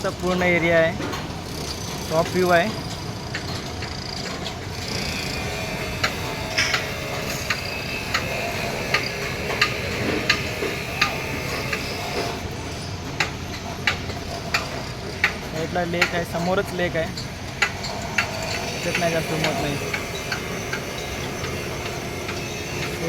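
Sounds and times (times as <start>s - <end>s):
outdoor background hum: 0.0s - 23.0s.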